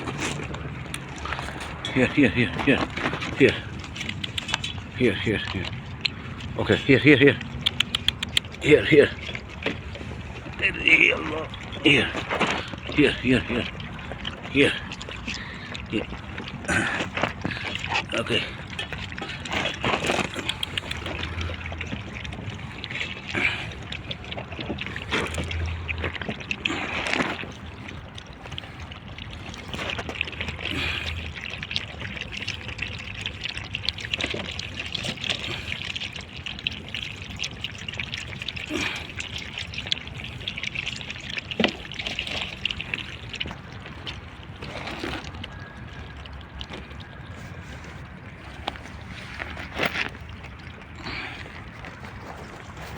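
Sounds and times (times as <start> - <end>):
puppies lapping milk: 0.0 - 52.9.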